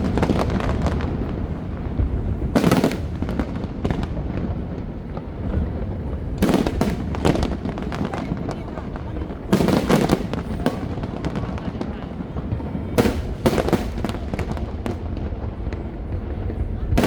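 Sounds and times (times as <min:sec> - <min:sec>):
fireworks crackling: 0:00.0 - 0:17.0
fireworks exploding: 0:00.0 - 0:17.0.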